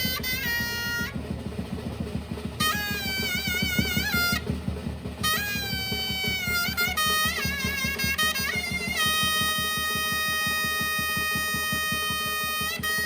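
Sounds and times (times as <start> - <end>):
drum beating steady rhythm: 0.0 - 13.0
shawm melody: 0.0 - 13.0.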